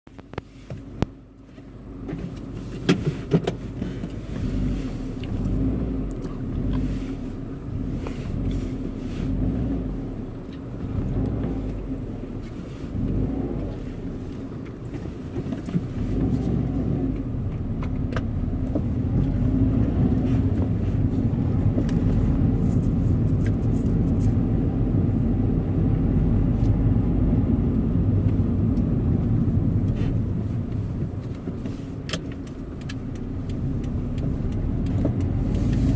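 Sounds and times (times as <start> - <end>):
car engine revving: 3.8 - 35.9.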